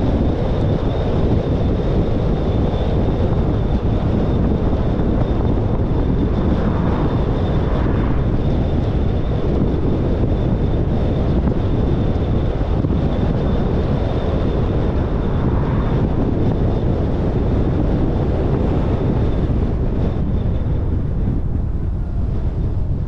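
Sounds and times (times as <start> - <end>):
car road and wind noise: 0.0 - 23.0
faint thin whine: 0.0 - 23.0.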